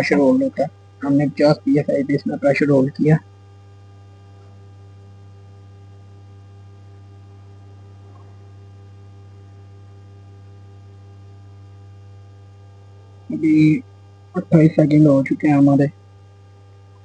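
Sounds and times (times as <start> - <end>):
faint pulsing tone: 0.0 - 15.9
low electrical hum: 0.0 - 17.0.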